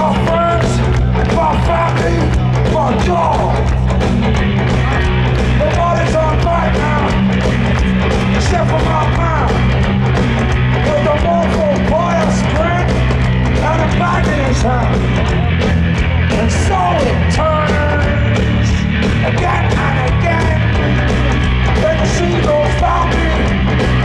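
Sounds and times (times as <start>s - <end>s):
punk rock band playing live: 0.0s - 24.0s.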